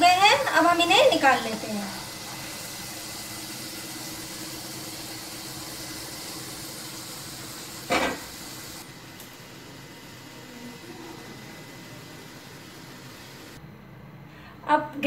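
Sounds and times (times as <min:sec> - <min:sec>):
balls sizzling in hot oil: 0:00.0 - 0:13.6.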